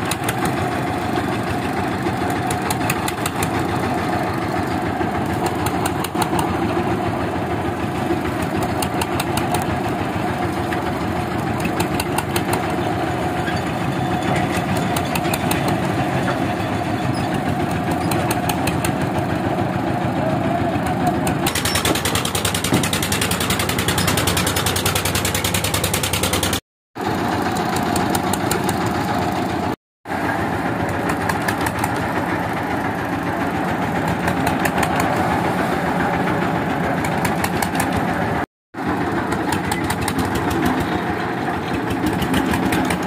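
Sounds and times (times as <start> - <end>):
concrete mixer engine running: 0.0 - 43.0.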